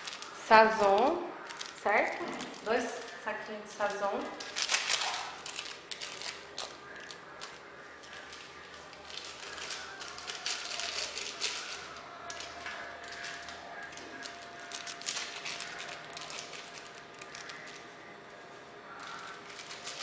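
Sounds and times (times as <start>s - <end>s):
crinkling and rustling of packaging: 0.0s - 20.0s.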